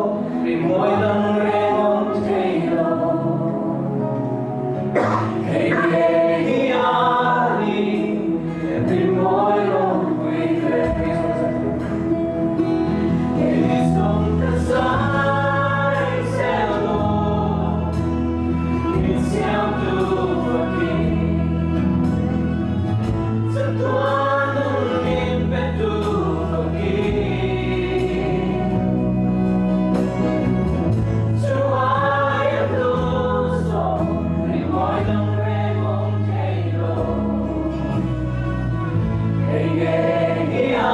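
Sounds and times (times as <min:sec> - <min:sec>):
group of voices singing: 0:00.0 - 0:40.9.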